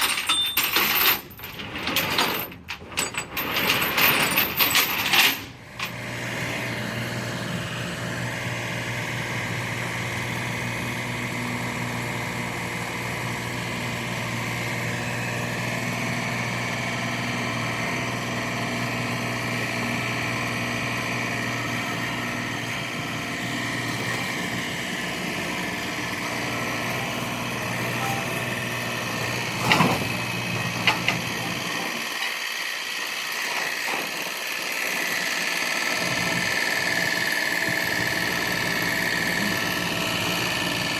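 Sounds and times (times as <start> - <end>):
stump grinder engine running: 5.4 - 40.9.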